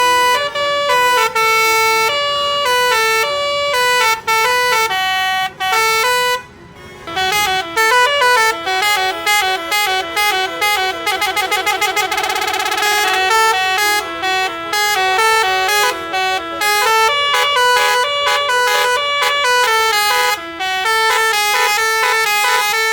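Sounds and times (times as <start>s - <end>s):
bus air horn melody: 0.0s - 22.9s.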